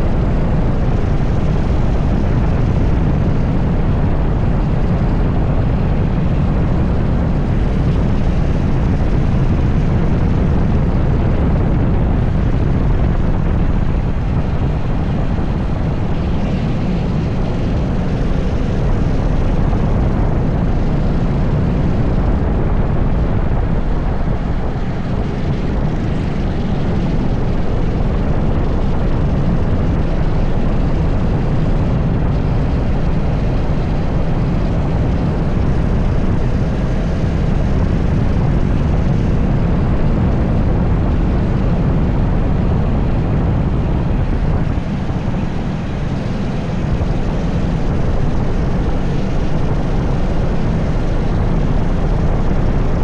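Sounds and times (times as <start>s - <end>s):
heavy low rumble: 0.0s - 53.0s
kart engine running at speed: 0.0s - 53.0s.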